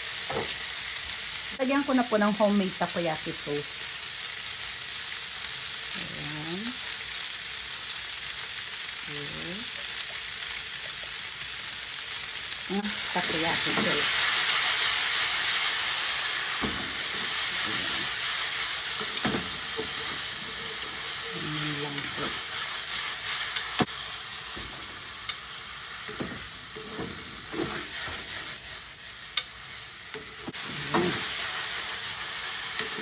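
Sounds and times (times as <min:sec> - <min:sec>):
food sizzling in a wok: 0:00.0 - 0:33.0.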